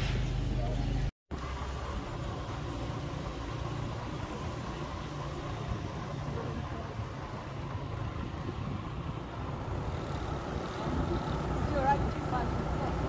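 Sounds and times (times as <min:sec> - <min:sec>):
wind and road noise: 0:00.0 - 0:13.0
scooter engine running: 0:01.3 - 0:13.0.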